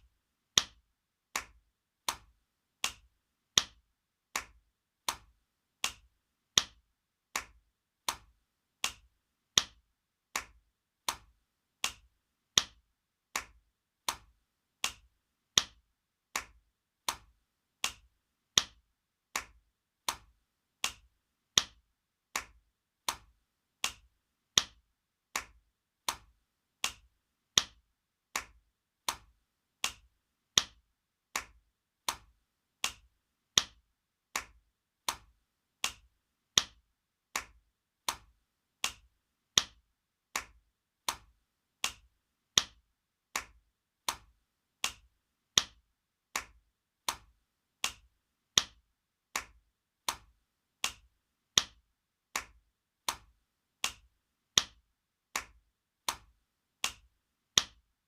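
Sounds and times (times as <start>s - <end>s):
hand slapping bare skin: 0.6s - 57.8s.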